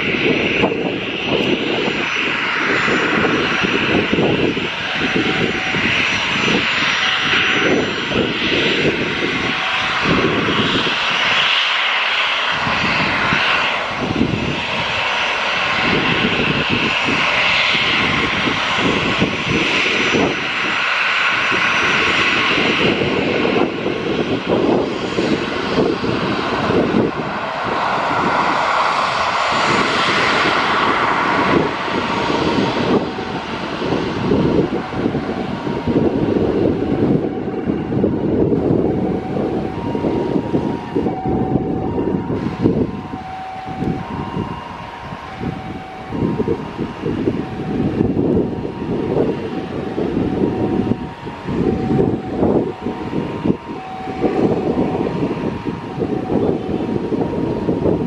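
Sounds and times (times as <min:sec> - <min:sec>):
jet engines whining: 0:00.0 - 0:58.0
wind buffeting microphone: 0:00.0 - 0:58.0.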